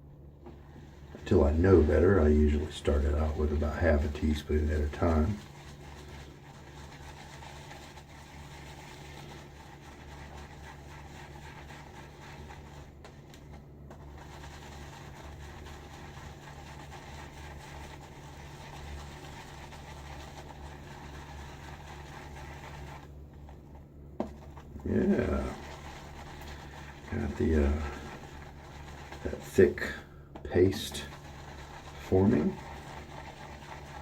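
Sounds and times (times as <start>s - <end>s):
shaving brush swishing lather: 0.4s - 34.0s.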